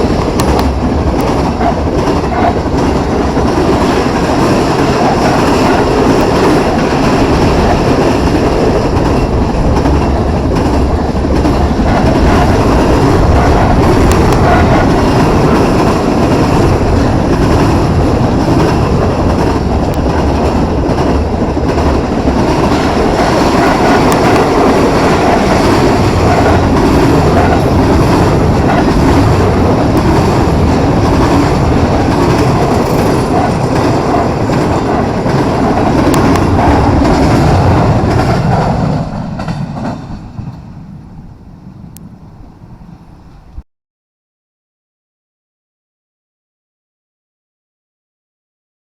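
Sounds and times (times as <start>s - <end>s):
wheels clattering over rail joints: 0.0s - 40.6s
freight train rumbling past: 0.0s - 43.6s.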